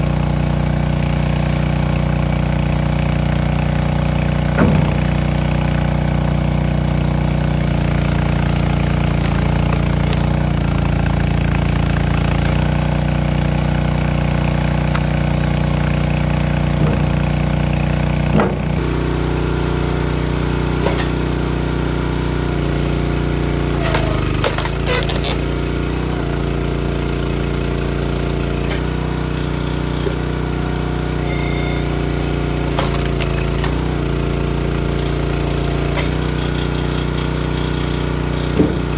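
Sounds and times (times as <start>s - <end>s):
loader engine running: 0.0s - 38.9s.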